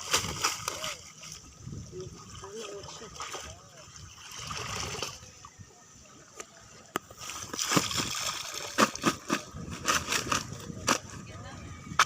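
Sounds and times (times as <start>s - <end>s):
water sloshing and splashing: 0.0s - 11.8s.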